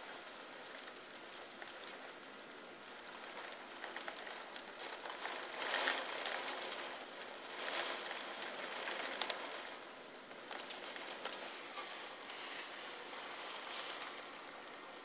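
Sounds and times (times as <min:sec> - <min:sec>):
heavy rain falling: 0:00.0 - 0:15.0
raindrops ticking on surfaces: 0:00.0 - 0:15.0.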